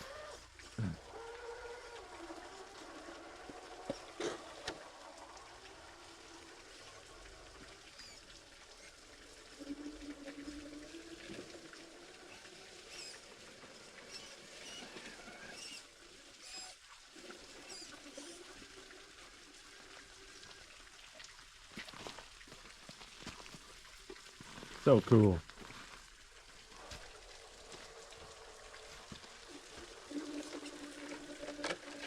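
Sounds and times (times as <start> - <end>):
creek water trickling and splashing: 0.0 - 32.0.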